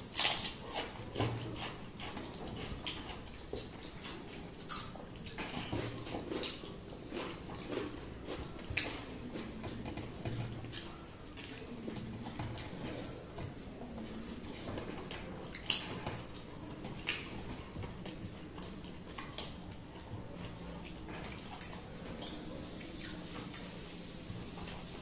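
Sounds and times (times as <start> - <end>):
wet chewing sounds: 0.0 - 25.0.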